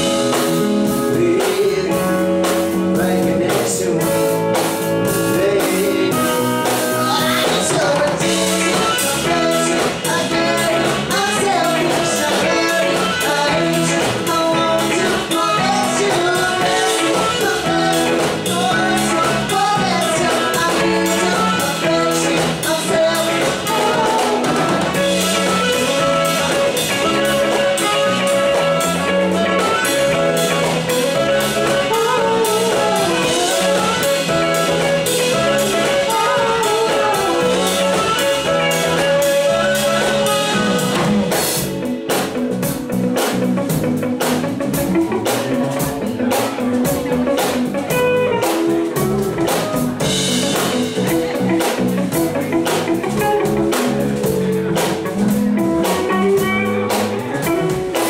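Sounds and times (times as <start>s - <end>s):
drum kit: 0.0s - 58.0s
electric bass: 0.0s - 58.0s
electric guitar: 0.0s - 58.0s
keyboard: 0.0s - 58.0s.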